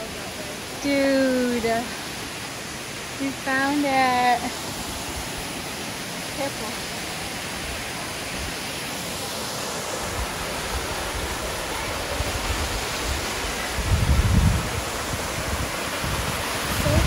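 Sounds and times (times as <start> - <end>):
waterfall rushing over rock: 0.0 - 17.0.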